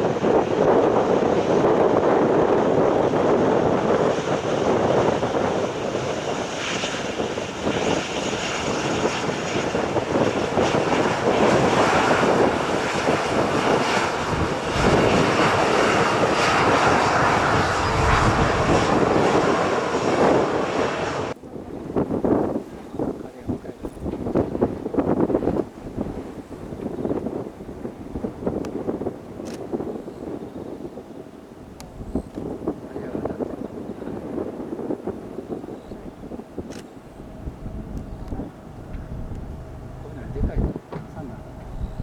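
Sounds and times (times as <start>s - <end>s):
airliner engines rushing: 0.0s - 42.0s
wind rumbling on microphone: 0.0s - 42.0s.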